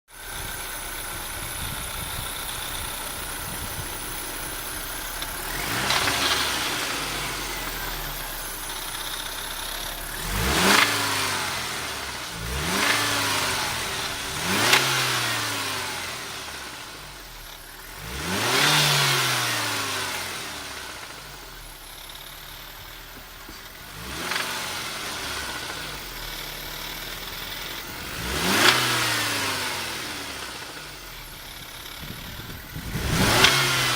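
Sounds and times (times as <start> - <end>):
car engine idling and revving: 0.1 - 33.9
engine rattle: 0.1 - 33.9.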